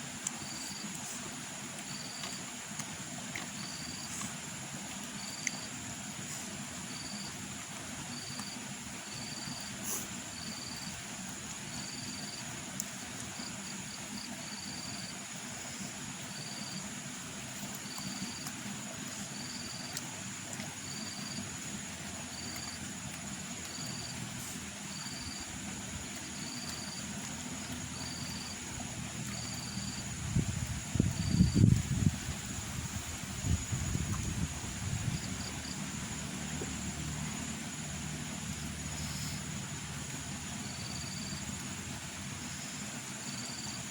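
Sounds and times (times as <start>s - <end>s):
constant hiss: 0.0s - 43.9s
cricket chirping: 0.0s - 43.9s
faint high steady whine: 0.0s - 43.9s.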